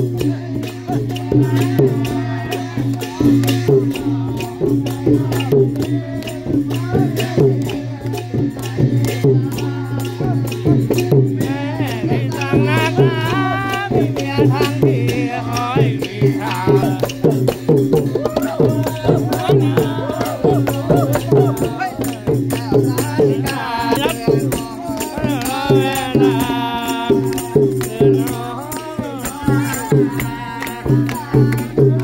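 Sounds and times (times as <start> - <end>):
long drums playing fast rhythm: 0.0 - 32.0
small hand cymbals clattering: 0.0 - 32.0.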